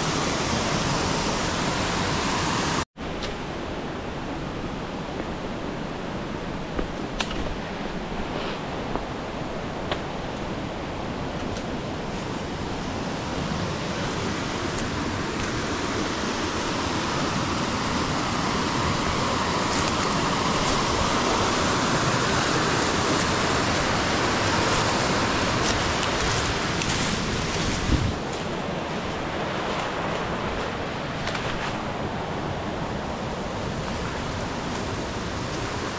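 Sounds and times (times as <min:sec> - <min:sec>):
stream water flowing: 0:00.0 - 0:35.9.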